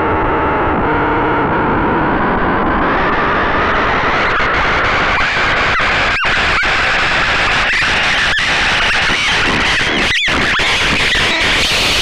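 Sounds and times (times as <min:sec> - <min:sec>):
noisy chaotic synthesizer texture: 0:00.0 - 0:12.0.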